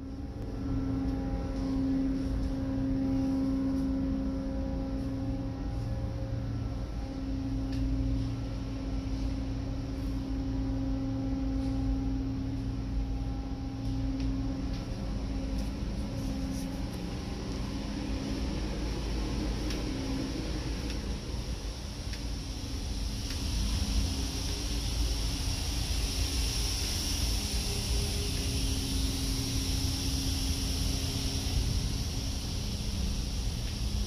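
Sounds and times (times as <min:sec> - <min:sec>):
machinery drone: 0:00.0 - 0:34.0.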